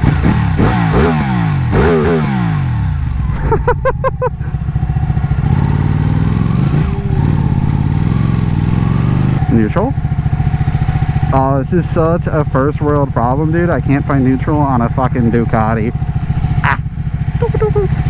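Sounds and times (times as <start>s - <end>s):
motorcycle engine slowing: 0.0s - 18.0s.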